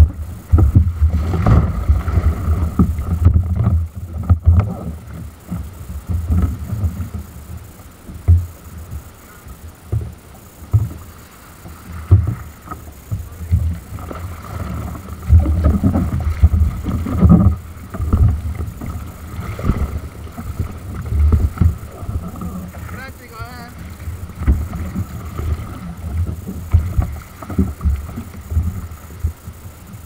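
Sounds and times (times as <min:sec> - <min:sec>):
paddle strokes in water: 0:00.0 - 0:30.0
waves hitting kayak hull: 0:00.0 - 0:30.0.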